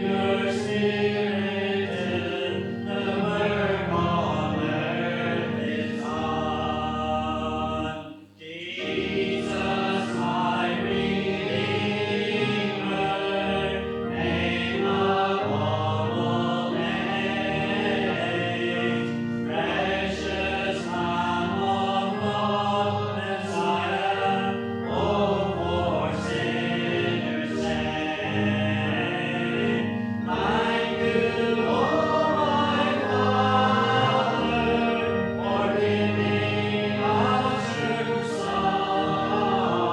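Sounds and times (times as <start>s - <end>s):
musical accompaniment: 0.0s - 39.9s
voices singing a hymn: 0.0s - 39.9s.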